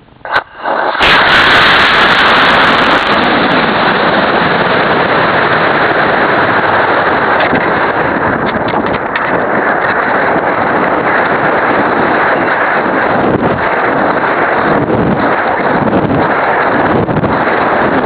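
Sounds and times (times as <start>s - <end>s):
air rushing past: 0.0s - 18.0s
rocket motor igniting: 0.2s - 18.0s
rushing roar of rocket thrust: 0.6s - 18.0s.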